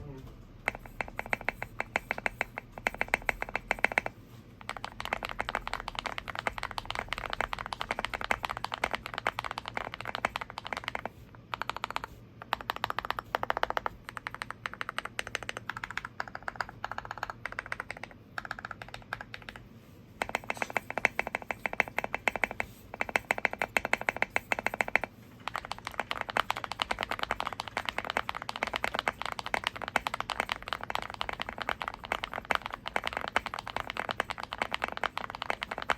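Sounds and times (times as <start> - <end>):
mechanical keyboard typing: 0.6 - 35.9.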